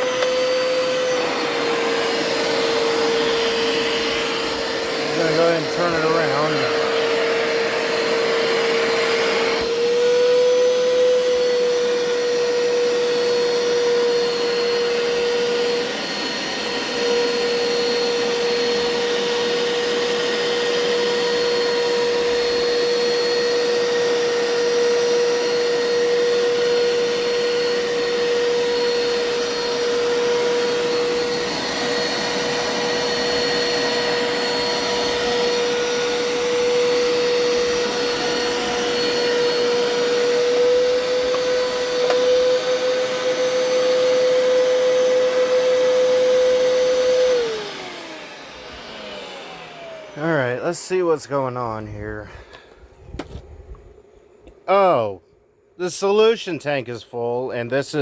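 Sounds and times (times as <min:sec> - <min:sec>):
carpet cleaner running: 0:00.0 - 0:55.2.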